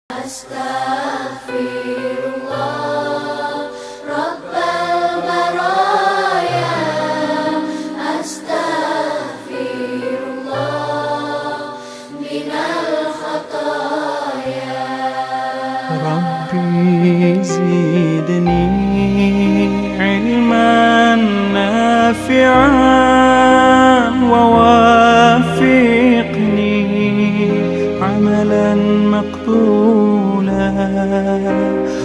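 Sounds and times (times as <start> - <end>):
chant-like singing: 0.1 - 32.0.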